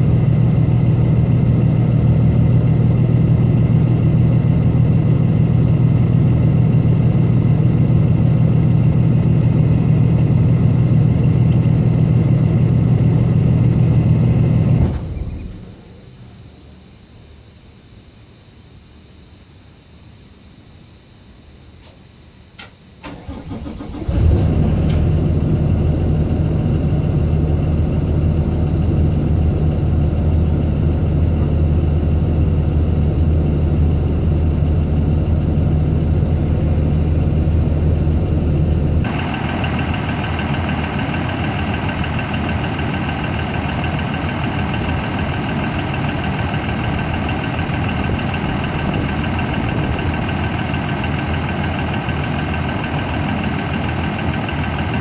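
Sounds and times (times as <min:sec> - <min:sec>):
diesel engine starting and idling: 0:00.0 - 0:16.1, 0:22.6 - 0:55.0.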